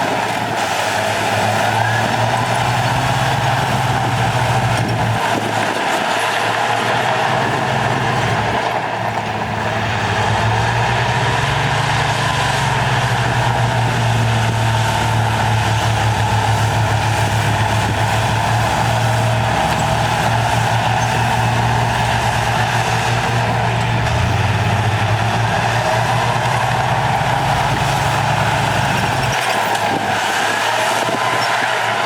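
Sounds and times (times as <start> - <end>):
diesel earthmoving machine running: 0.0 - 32.0.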